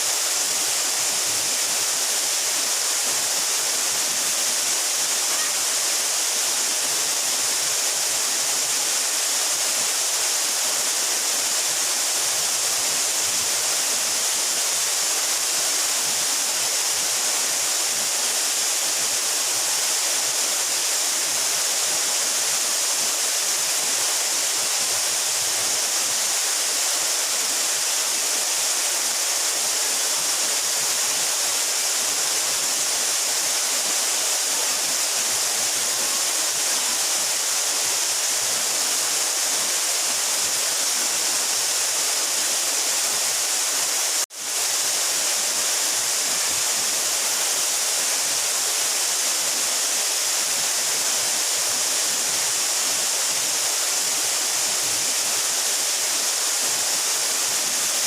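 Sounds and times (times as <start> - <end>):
waterfall pouring: 0.0 - 58.0.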